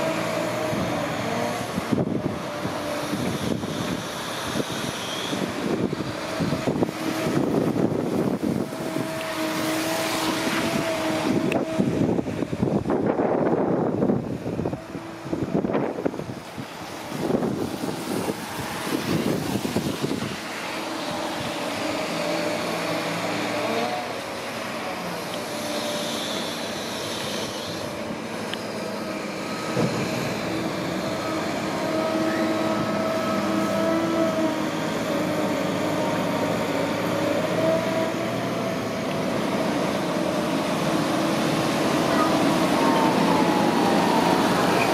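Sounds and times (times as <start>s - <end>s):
material handler engine and hydraulics: 0.0s - 44.9s.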